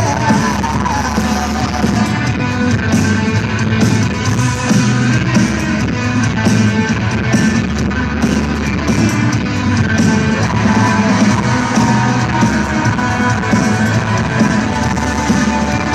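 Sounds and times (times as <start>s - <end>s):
bass guitar: 0.0s - 15.9s
drums: 0.0s - 15.9s
electric guitar: 0.0s - 15.9s.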